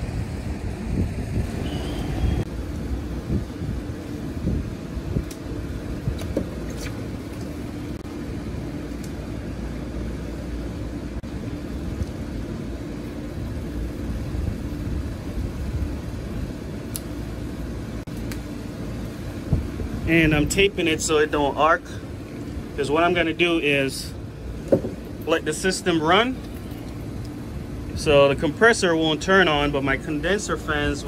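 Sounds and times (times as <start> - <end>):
air conditioning machinery rumbling: 0.0 - 31.0
faint steady hum: 0.0 - 31.0.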